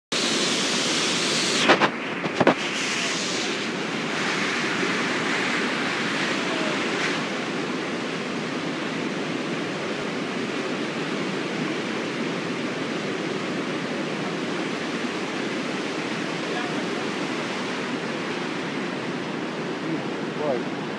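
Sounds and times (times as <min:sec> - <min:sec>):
waterfall rushing: 0:00.1 - 0:20.9.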